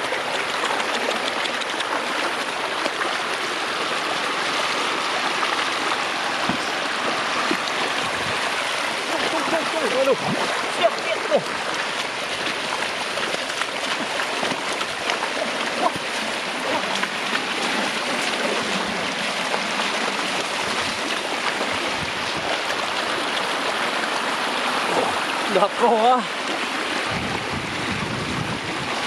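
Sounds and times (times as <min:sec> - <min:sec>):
floodwater rushing: 0:00.0 - 0:29.0
water splashes: 0:00.0 - 0:29.0.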